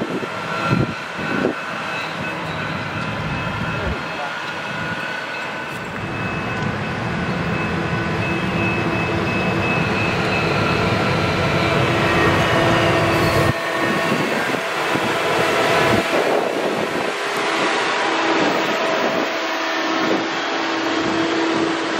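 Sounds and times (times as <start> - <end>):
diesel engine of rail machine: 0.0 - 21.9.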